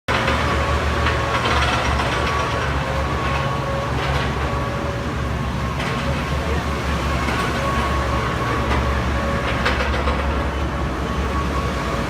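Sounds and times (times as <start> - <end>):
excavator engine running: 0.1 - 12.0.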